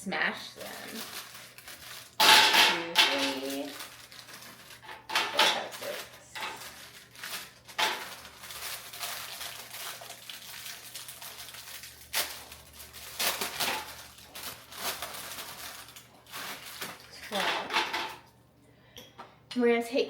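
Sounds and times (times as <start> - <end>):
crackers crackling on baking sheet: 0.5 - 18.4.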